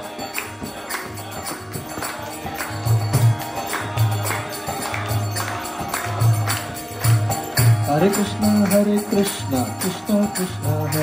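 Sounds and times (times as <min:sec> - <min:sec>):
hand claps: 0:00.0 - 0:11.0
hand drum beat: 0:00.0 - 0:11.0
harmonium chords: 0:00.0 - 0:11.0.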